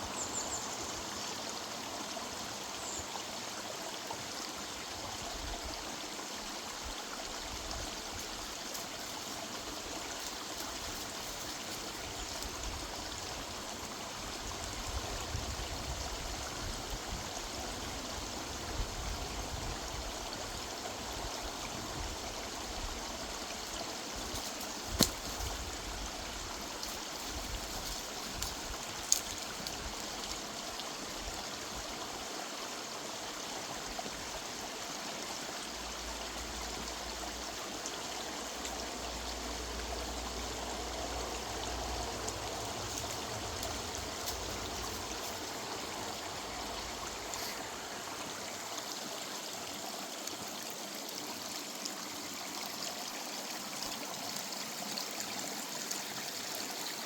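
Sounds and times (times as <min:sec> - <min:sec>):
river water running over streambed: 0:00.0 - 0:57.0.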